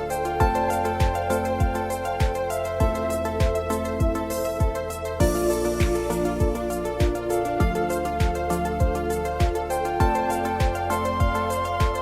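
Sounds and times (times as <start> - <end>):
calm new-age keyboard music: 0.0 - 12.0.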